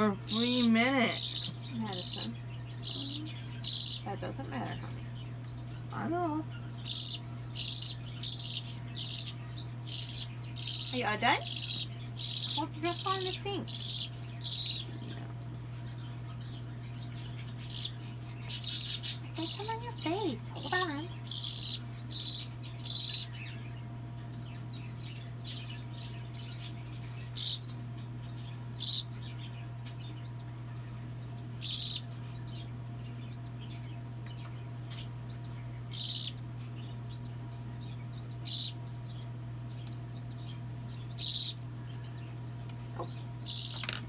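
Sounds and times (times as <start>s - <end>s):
baby bird begging chirps: 0.0s - 44.0s
steady low hum: 0.0s - 44.0s.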